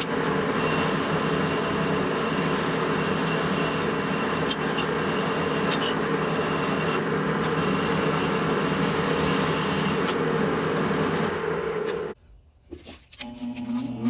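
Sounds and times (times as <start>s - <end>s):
power tool abrading metal: 0.0s - 12.2s.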